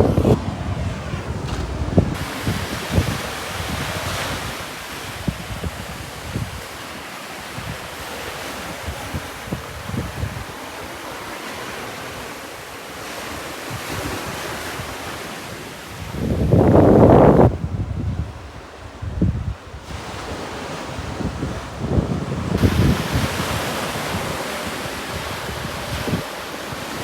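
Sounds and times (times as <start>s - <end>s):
ocean surf breaking on shore: 0.0s - 27.0s
wind buffeting microphone: 0.0s - 27.0s.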